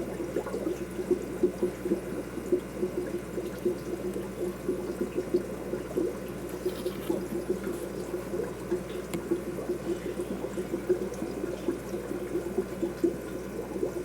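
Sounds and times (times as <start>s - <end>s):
aquarium water bubbling: 0.0s - 14.0s.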